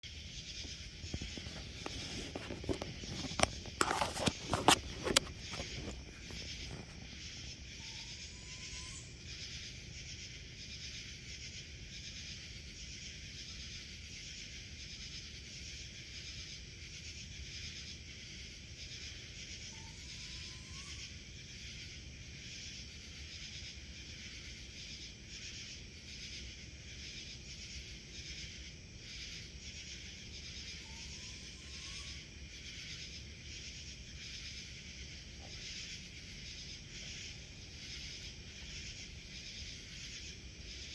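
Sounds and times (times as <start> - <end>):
pulsing insect chorus: 0.0 - 40.9.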